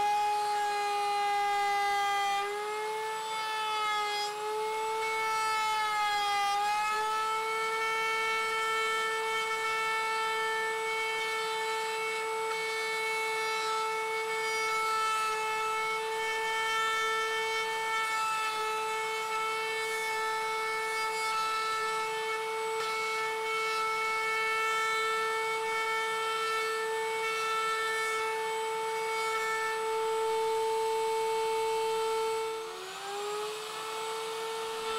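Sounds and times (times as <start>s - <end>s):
router high whine: 0.0s - 34.9s.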